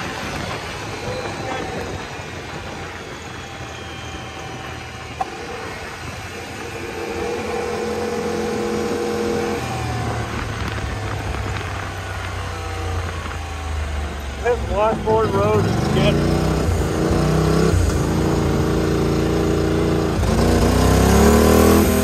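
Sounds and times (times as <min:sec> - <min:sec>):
wind noise: 0:00.0 - 0:19.0
vehicle engine running: 0:00.0 - 0:22.0.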